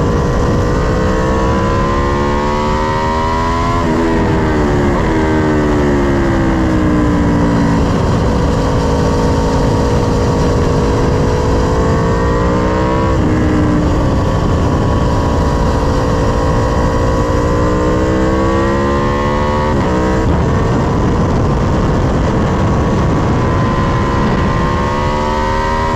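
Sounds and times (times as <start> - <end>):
motorcycle engine revving: 0.0 - 25.9
wind rush: 0.0 - 25.9.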